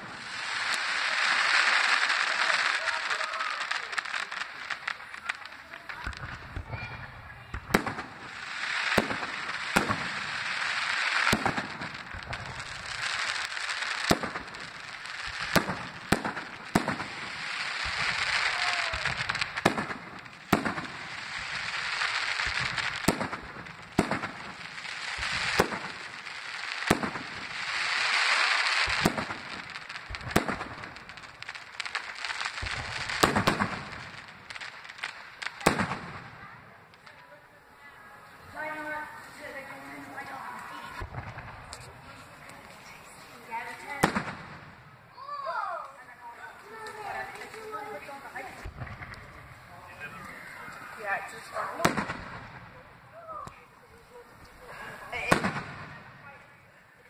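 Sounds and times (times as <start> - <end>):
fireworks bangs: 0.0 - 56.8.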